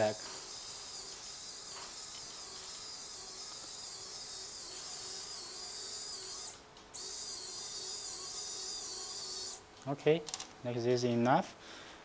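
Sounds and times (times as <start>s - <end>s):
electric winch motor whine: 0.0s - 9.6s.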